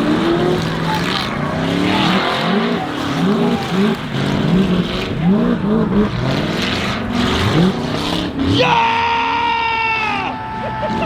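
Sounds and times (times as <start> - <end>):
truck engines revving hard: 0.0 - 11.0.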